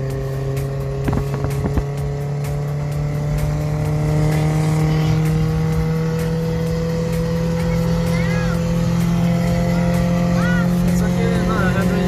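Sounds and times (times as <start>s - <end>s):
engine revs climbing: 0.0s - 12.0s.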